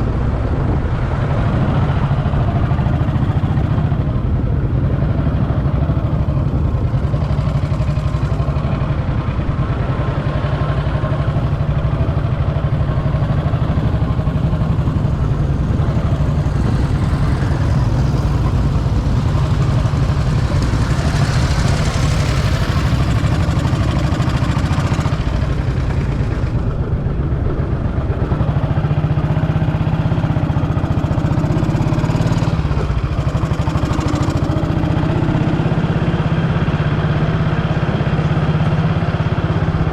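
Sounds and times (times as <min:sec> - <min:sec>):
broad rush of noise: 0:00.0 - 0:39.9
motorcycle engine idling: 0:00.0 - 0:39.9.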